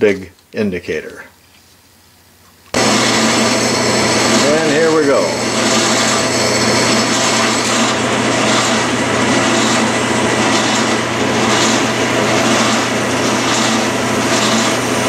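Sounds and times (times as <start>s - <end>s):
end mill cutting aluminum: 2.8s - 15.0s
lathe running: 2.8s - 15.0s.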